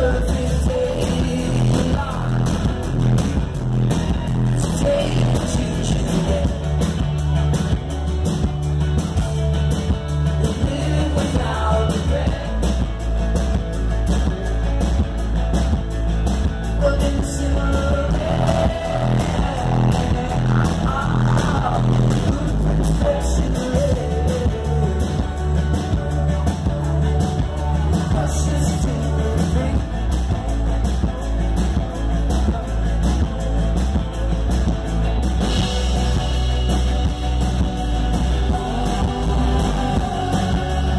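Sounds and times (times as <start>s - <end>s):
person singing: 0.0s - 3.2s, 3.8s - 7.9s, 10.2s - 13.1s, 16.7s - 36.9s, 37.7s - 40.9s
live rock band playing: 0.0s - 40.9s.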